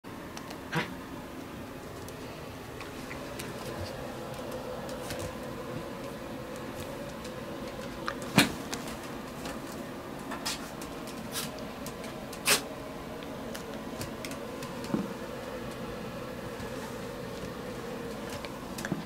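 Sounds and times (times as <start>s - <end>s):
steady background hum: 0.1s - 19.0s.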